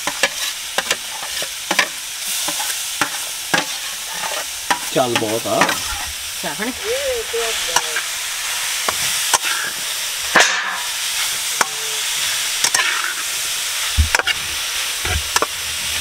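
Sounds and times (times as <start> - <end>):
carrots sizzling in a pan: 0.0 - 16.0.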